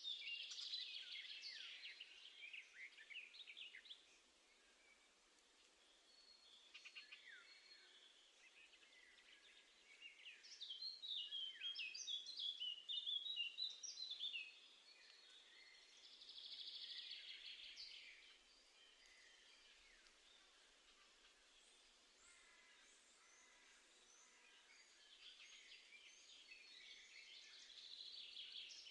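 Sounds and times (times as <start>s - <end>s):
songbirds chirping: 0.0s - 28.9s.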